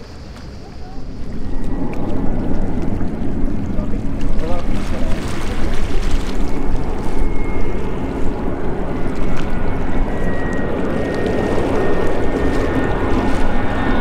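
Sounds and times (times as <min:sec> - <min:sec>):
faint high whine: 0:00.0 - 0:14.0
jet engines rumbling: 0:00.0 - 0:14.0.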